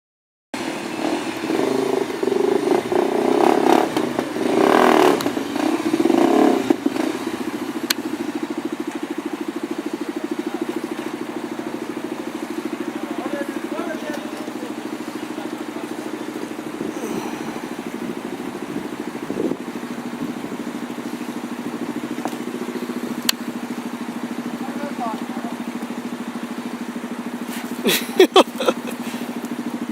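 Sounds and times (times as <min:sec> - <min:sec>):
motorcycle engine revving: 0:00.6 - 0:29.9.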